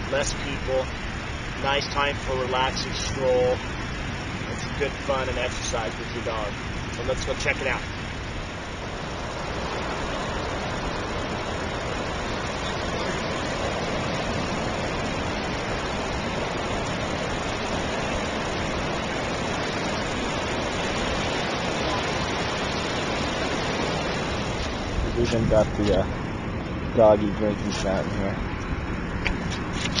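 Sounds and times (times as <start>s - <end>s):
ocean surf breaking on sand: 0.0s - 30.0s.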